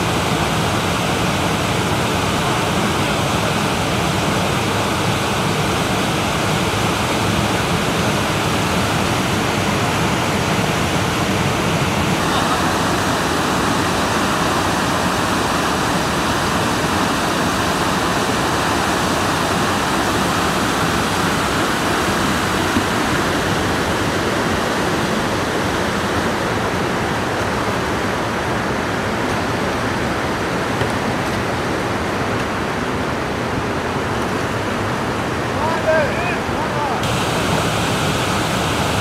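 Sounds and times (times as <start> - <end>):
river rapids rushing: 0.0 - 39.0.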